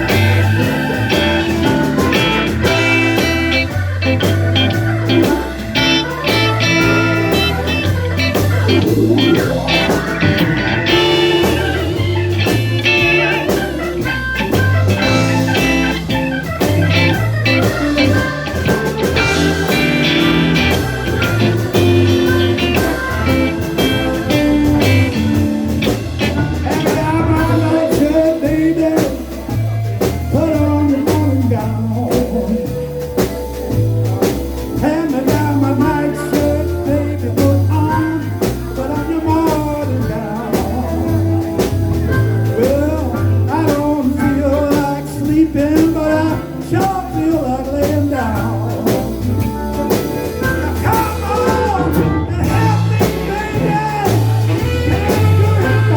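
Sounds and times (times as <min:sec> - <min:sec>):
bass line: 0:00.0 - 0:55.9
steady drums: 0:00.0 - 0:55.9.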